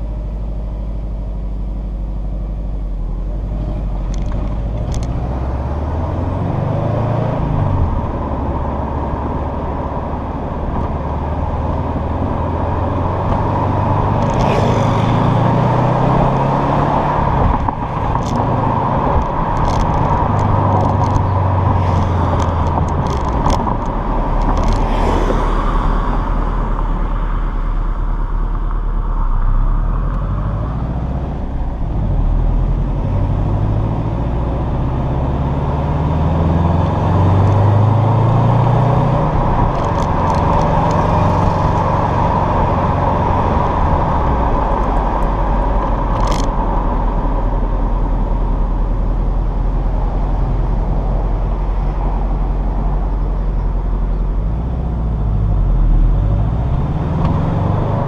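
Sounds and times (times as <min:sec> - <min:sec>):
car engine and exhaust: 0:00.0 - 0:58.0
tyre and road noise: 0:00.0 - 0:58.0.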